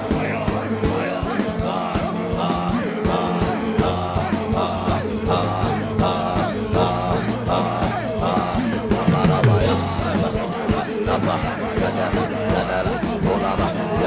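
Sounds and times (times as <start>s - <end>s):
congregation praying aloud: 0.0s - 14.0s
worship music with drum beat: 0.0s - 14.0s.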